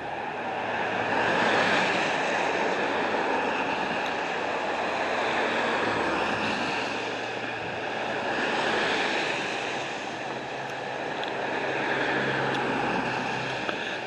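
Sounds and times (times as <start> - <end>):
road traffic rushing past: 0.0 - 14.0.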